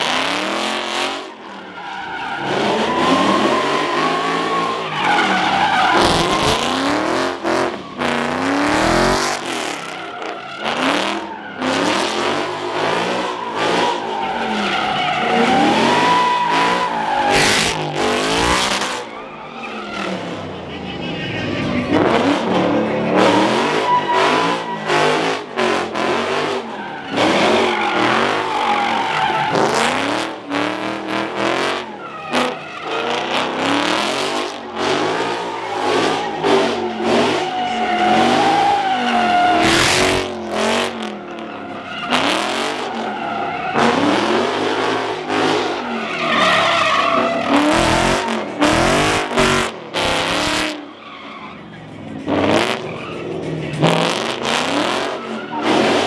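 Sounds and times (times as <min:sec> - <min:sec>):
car engines revving: 0:00.0 - 0:56.0
tyres squealing and skidding: 0:00.0 - 0:56.0.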